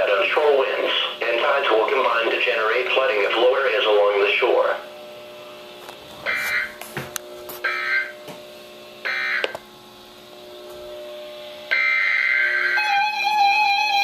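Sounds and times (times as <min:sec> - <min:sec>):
steady radio hum: 0:00.0 - 0:14.0.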